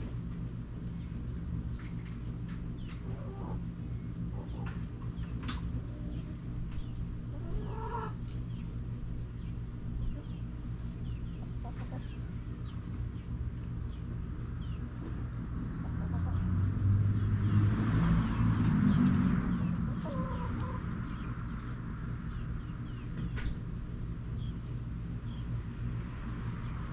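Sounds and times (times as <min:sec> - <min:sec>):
chickens clucking: 0:00.0 - 0:17.6, 0:18.3 - 0:26.2.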